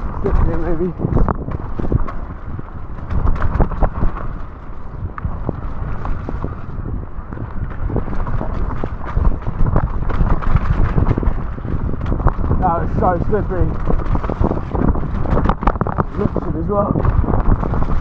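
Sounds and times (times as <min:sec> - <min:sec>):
bike knocking and rattling: 0:00.0 - 0:18.0
bike tyres rumbling: 0:00.0 - 0:18.0
wind on microphone: 0:00.0 - 0:18.0.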